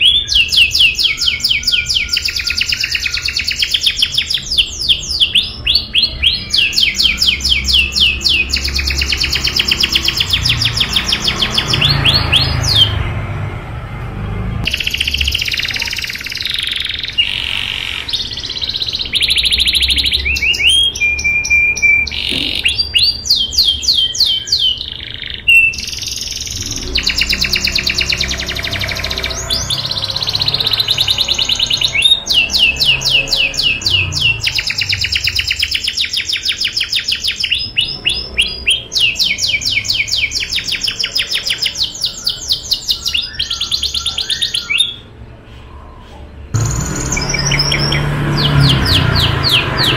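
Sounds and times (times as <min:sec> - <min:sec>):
canary singing trills: 0:00.0 - 0:13.2, 0:14.6 - 0:49.9.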